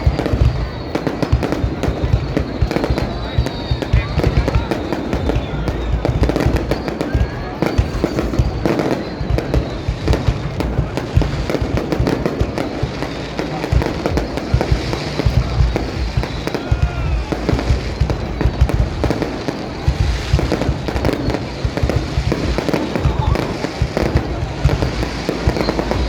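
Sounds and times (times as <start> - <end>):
fireworks cracking and banging: 0.0 - 26.0.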